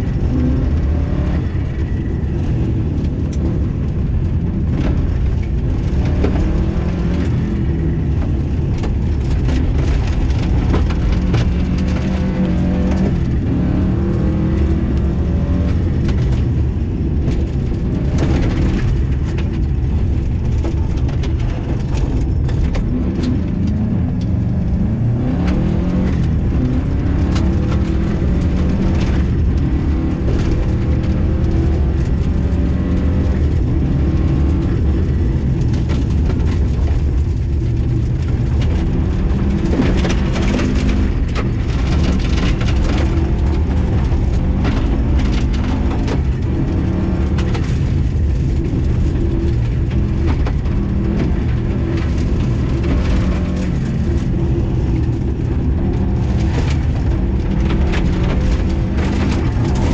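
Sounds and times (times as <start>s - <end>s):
gravel striking car: 0.0s - 59.9s
rally car engine revving: 0.0s - 59.9s.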